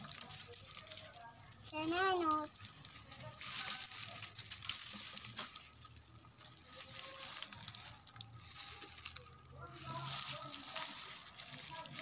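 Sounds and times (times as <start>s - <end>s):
dry twigs and leaves rustling: 0.0s - 12.0s.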